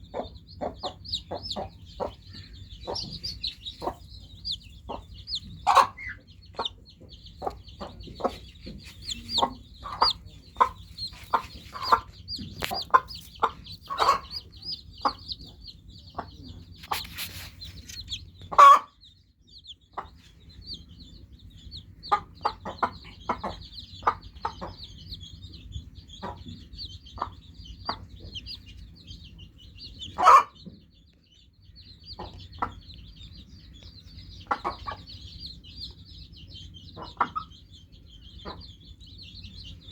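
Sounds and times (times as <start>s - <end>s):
chickens calling: 0.0s - 39.9s
chicks peeping: 0.0s - 39.9s.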